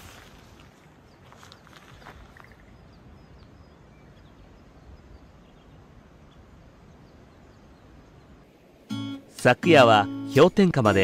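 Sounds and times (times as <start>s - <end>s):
outdoor background hiss: 0.0s - 11.0s
small birds chirping: 0.6s - 11.0s.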